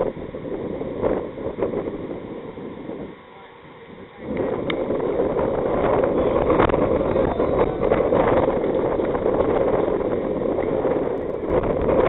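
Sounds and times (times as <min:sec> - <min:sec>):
wind buffeting microphone: 0:00.0 - 0:03.2, 0:03.8 - 0:12.0.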